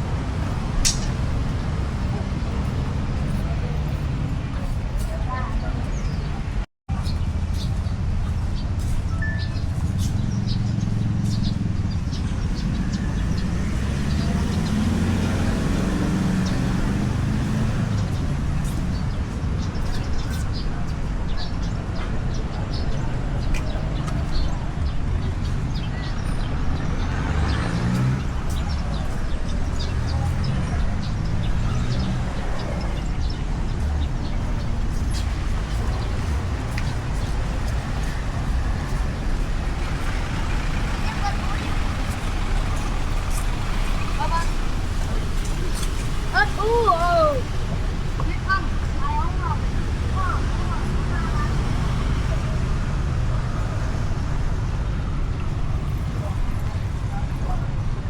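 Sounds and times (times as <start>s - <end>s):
road traffic engines humming: 0.0s - 58.0s.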